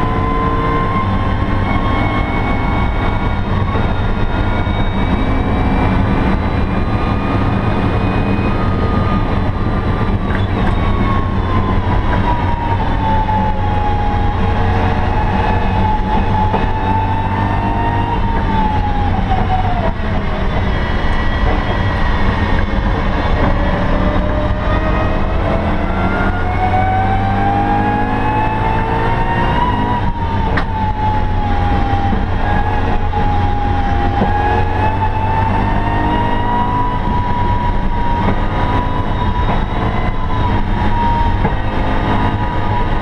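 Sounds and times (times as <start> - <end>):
engine running hard: 0.0 - 43.0
road and wind noise: 0.0 - 43.0.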